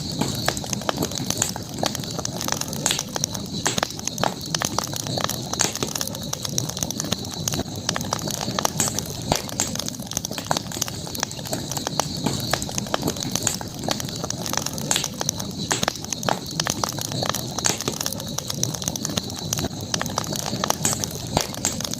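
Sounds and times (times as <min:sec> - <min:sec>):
campfire crackling and popping: 0:00.0 - 0:21.9
rush of flame: 0:00.0 - 0:21.9.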